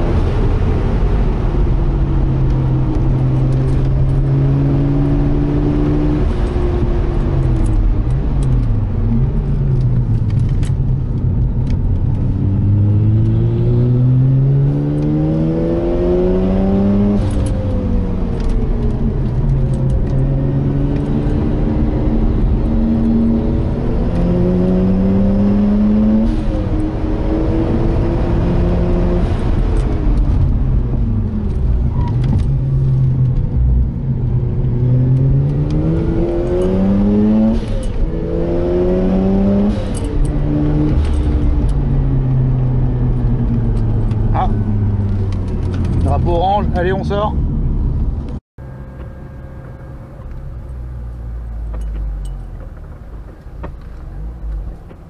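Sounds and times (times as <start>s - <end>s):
rotary engine revving in cabin: 0.0s - 55.0s.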